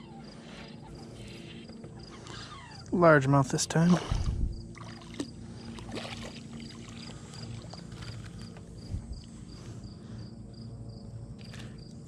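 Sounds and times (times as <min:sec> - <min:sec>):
cricket chirping: 0:00.0 - 0:12.0
low steady hum: 0:00.0 - 0:12.0.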